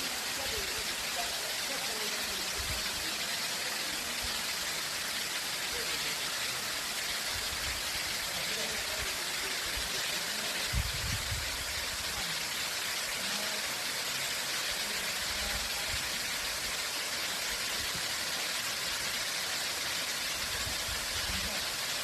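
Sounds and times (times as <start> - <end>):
waterfall splashing: 0.0 - 22.0.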